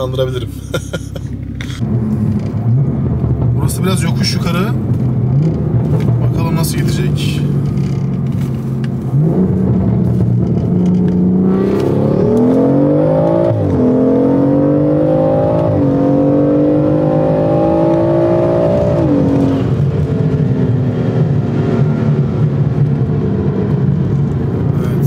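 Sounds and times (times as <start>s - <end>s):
car engine at full throttle: 0.0s - 25.0s.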